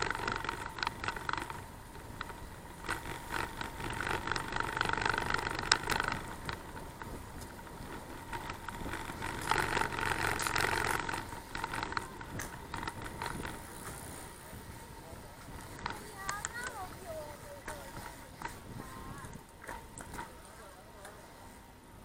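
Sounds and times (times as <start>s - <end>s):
bicycle rattles and clicks: 0.0s - 22.0s
wind and road noise: 0.0s - 22.0s.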